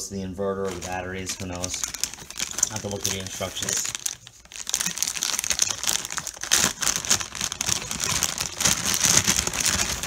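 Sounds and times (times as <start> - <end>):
plastic bags crinkling: 0.4 - 10.0.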